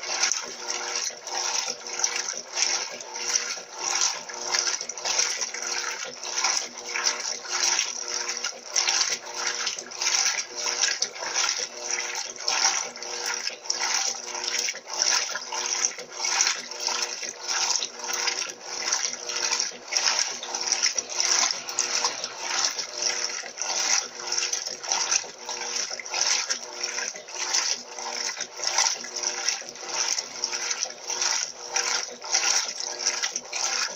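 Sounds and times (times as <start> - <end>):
washing machine motor hum: 0.0 - 33.9
water sloshing in washing machine: 0.0 - 33.9.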